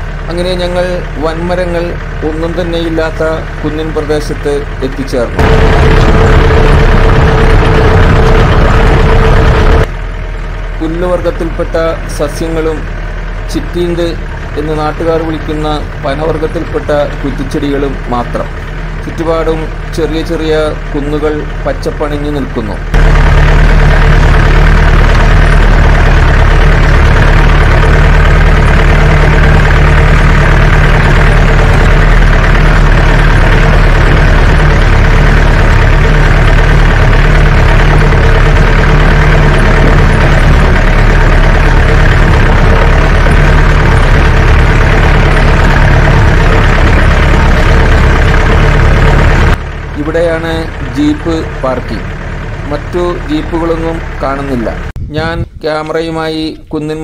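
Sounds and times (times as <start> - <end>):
car engine running under load: 0.0 - 56.0.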